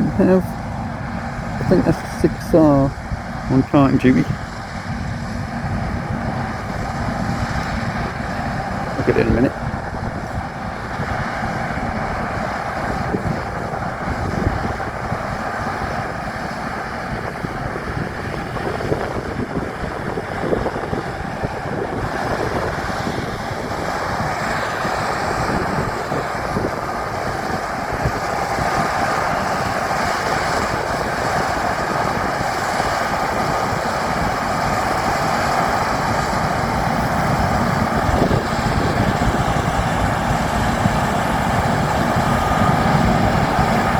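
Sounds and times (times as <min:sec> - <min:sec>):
heavy farm machinery running: 0:00.0 - 0:43.9
wind noise on microphone: 0:00.0 - 0:43.9.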